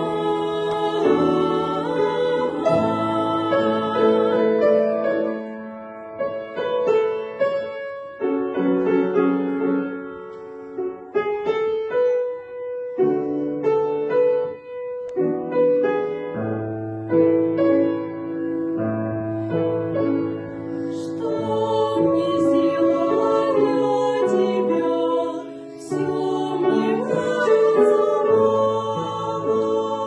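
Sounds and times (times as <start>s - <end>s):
slow gentle piano: 0.0s - 30.0s.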